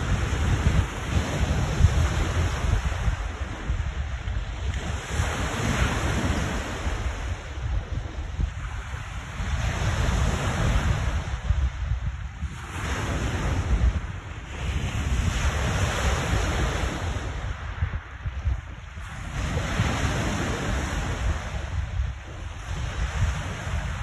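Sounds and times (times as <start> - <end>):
waves breaking on shore: 0.0 - 24.0
wind buffeting microphone: 0.0 - 24.0.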